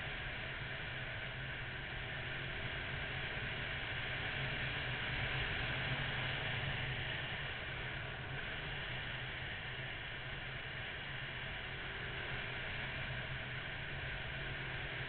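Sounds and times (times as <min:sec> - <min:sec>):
motorcycle engine hum: 0:00.0 - 0:15.0
wind and road noise: 0:00.1 - 0:15.0.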